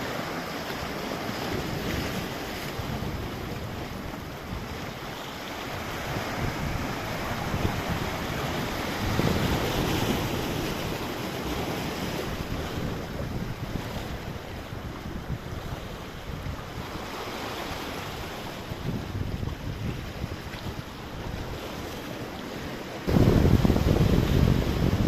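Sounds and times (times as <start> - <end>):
sea waves washing in: 0.0 - 25.0
wind buffeting microphone: 0.9 - 22.1, 23.1 - 25.0.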